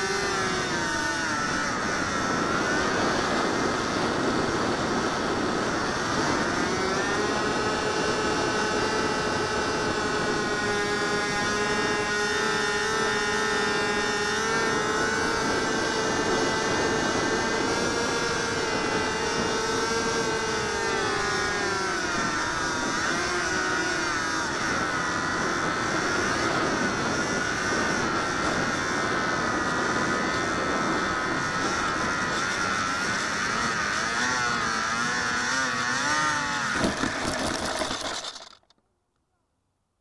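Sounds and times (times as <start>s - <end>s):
model plane motor whining: 0.0s - 38.8s.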